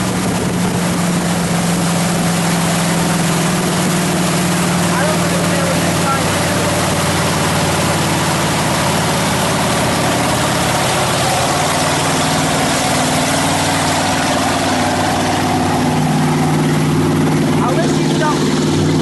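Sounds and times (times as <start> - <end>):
motorboat engine running: 0.0 - 19.0
wind and water rushing: 0.0 - 19.0.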